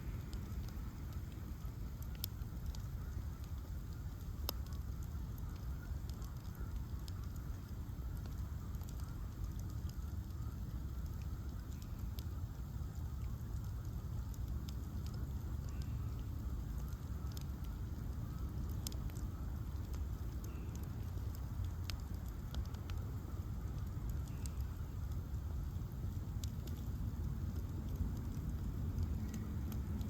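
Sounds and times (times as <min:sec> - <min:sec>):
bonfire crackling and popping: 0:00.0 - 0:30.0
fire low rumble: 0:00.0 - 0:30.0.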